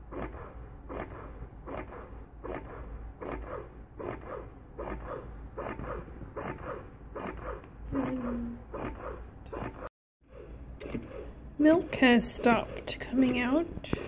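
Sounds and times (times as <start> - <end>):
breast pump suction whooshes: 0.0 - 14.0.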